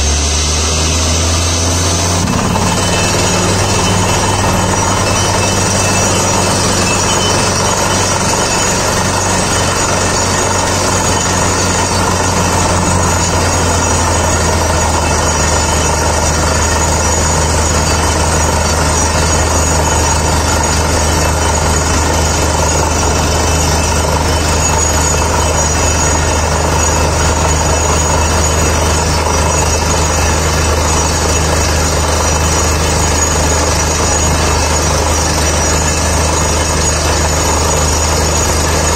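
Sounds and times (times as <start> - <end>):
air compressor droning: 0.0 - 38.9.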